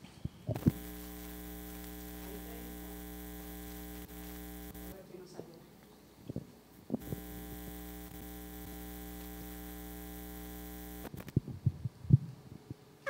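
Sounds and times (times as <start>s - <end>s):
electrical mains hum: 0.0s - 11.9s.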